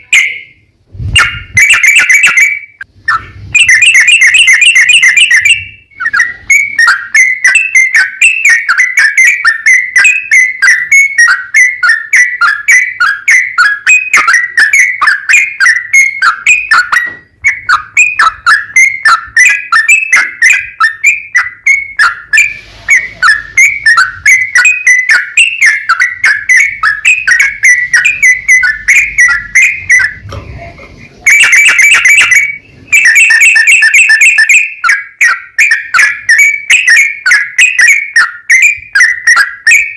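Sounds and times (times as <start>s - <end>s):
bird singing rapid chirps: 0.0s - 30.3s, 31.1s - 39.9s.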